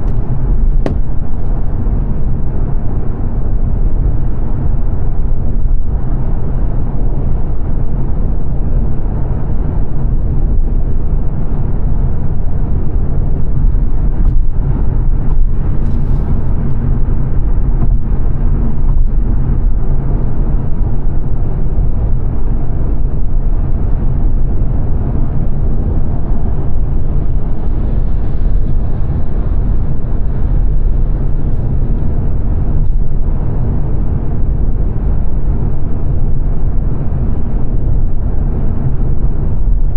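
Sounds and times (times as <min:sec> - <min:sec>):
car engine drone: 0:00.0 - 0:39.9
road and tyre roar: 0:00.0 - 0:39.9.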